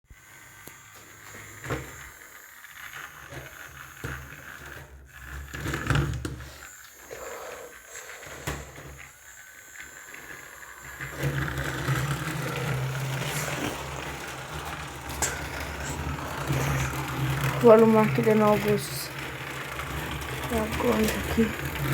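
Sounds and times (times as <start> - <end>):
toy train clicks and rattles: 0.1 - 21.9
toy train motor hum: 0.1 - 21.9.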